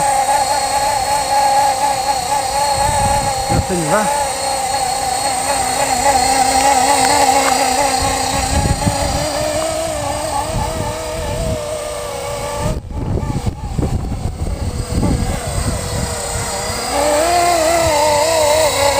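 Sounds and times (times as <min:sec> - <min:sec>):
rc helicopter motor whine: 0:00.0 - 0:18.9
wind buffeting microphone: 0:00.0 - 0:18.9.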